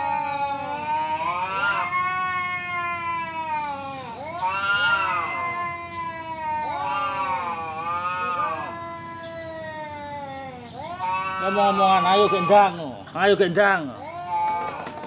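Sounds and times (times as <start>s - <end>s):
cats caterwauling: 0.0s - 13.0s, 13.6s - 15.0s.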